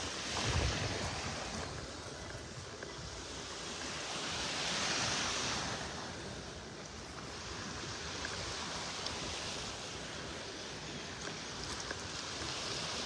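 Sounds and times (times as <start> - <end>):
gentle surf washing up sand: 0.0 - 13.0.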